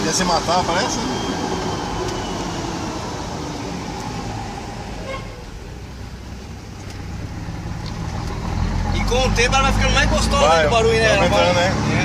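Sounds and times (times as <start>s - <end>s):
pickup engine rumbling while driving: 0.0s - 12.0s.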